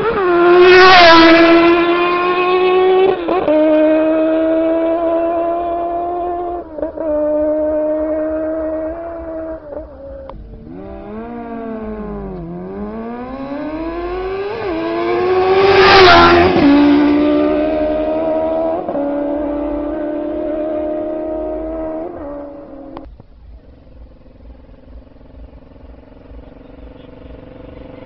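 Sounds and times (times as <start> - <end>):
motorcycles racing past: 0.0 - 23.1.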